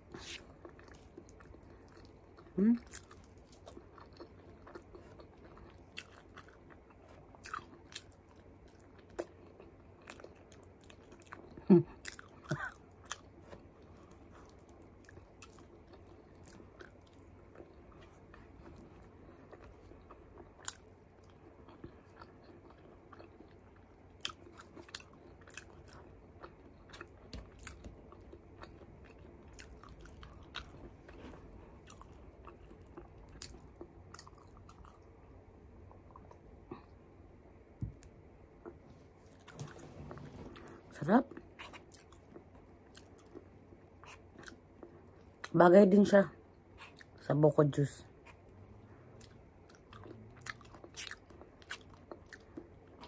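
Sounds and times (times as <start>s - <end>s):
close chewing: 0.0s - 37.0s, 37.9s - 45.6s, 46.6s - 47.2s, 48.1s - 53.0s.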